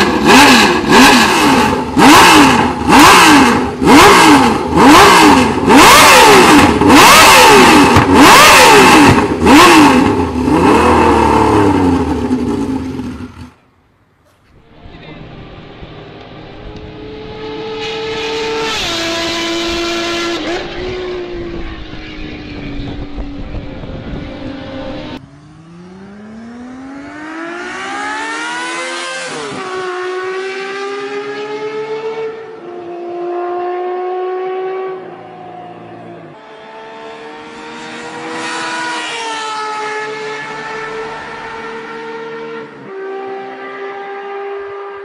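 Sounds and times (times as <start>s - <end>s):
motorcycle engine revving: 0.0s - 13.6s, 14.5s - 45.0s.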